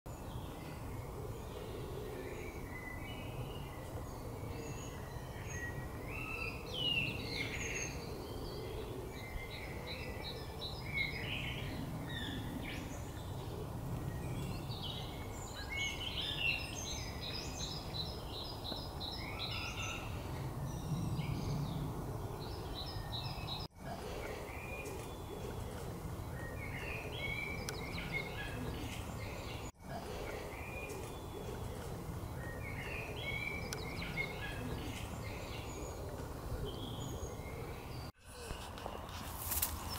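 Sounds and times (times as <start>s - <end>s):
songbirds singing and chirping: 0.1s - 39.9s.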